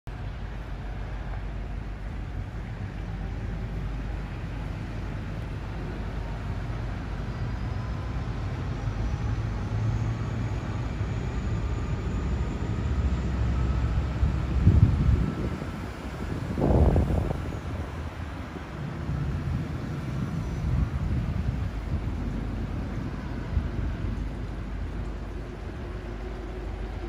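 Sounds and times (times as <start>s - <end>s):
boat engine drone: 0.1s - 27.0s.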